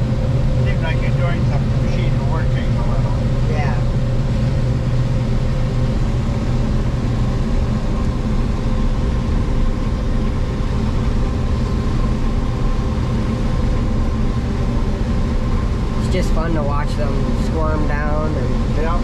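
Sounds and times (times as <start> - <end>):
faint steady whine: 0.0 - 19.0
harvester engine drone: 0.0 - 19.0.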